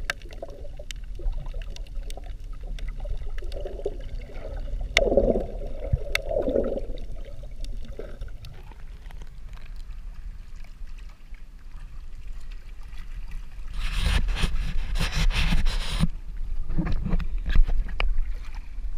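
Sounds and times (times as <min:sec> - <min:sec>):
water splashing: 0:00.0 - 0:16.0
water sloshing and bubbling: 0:00.0 - 0:18.9.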